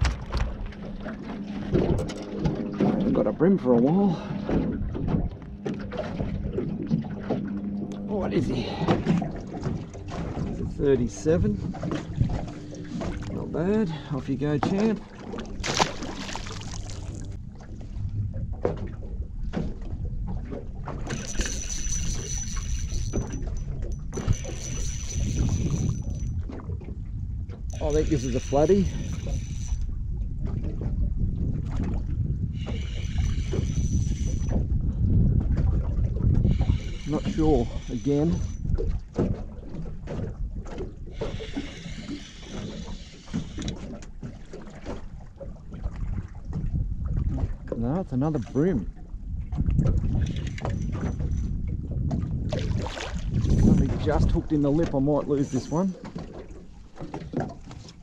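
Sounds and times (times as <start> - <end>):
water around boat: 0.0 - 58.0
wind rumble on microphone: 0.0 - 58.0.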